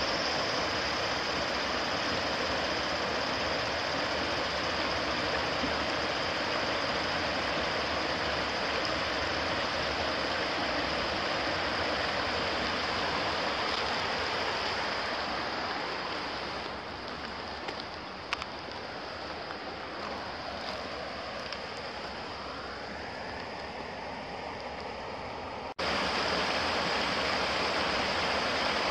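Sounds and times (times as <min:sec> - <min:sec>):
stream water running over rocks: 0:00.0 - 0:28.9.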